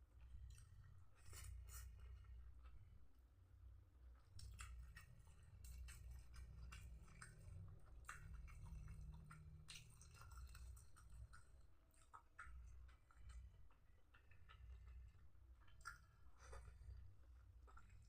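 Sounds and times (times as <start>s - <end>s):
person chewing crunchy food: 0.2s - 2.8s, 4.2s - 18.0s.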